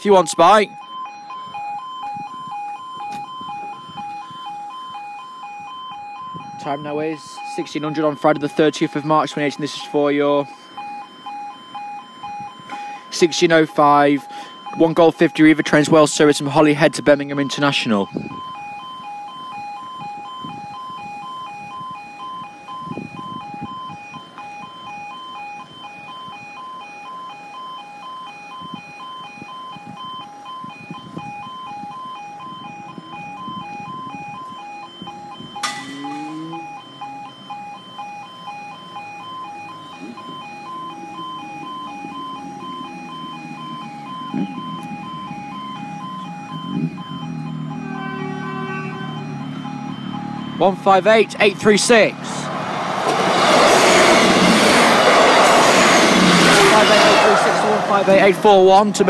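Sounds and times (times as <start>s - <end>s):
pulsing two-tone crossing alarm: 0.0s - 59.0s.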